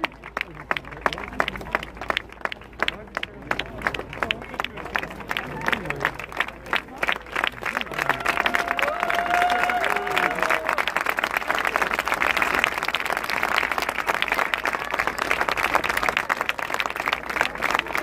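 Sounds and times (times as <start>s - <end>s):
crowd applauding: 0.0s - 18.0s.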